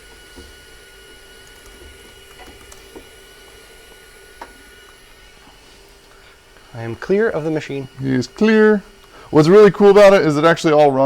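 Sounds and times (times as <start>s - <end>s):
room tone hum: 0.0s - 11.0s.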